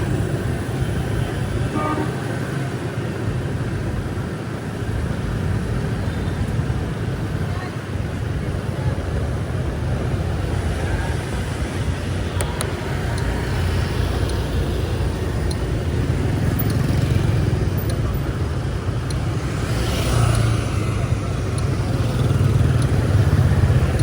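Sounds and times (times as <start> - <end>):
road traffic engines rumbling: 0.0 - 24.0.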